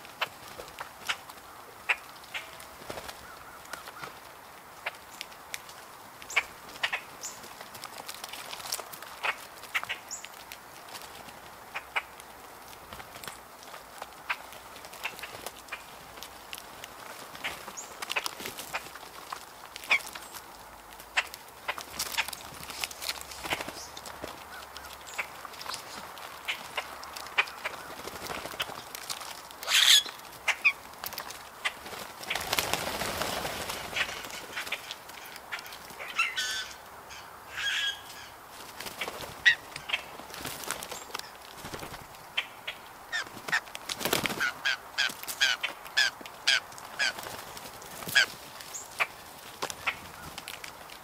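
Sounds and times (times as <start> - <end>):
birds pecking in wood chips: 0.0 - 51.0.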